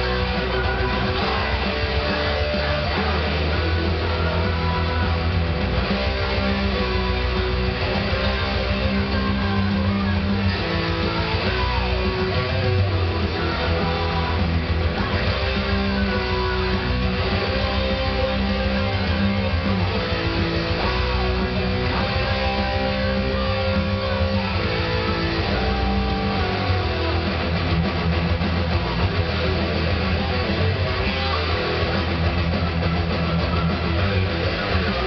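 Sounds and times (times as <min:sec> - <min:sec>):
drums and bass backing track: 0:00.0 - 0:35.0
electric guitar playing metal: 0:00.0 - 0:35.0.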